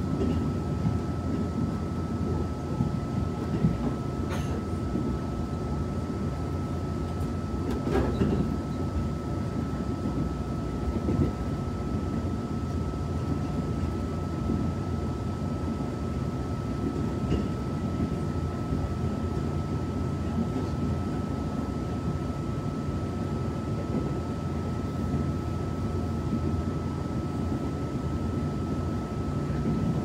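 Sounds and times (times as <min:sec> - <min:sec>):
train wheels rumbling on track: 0:00.0 - 0:22.3, 0:23.2 - 0:30.0.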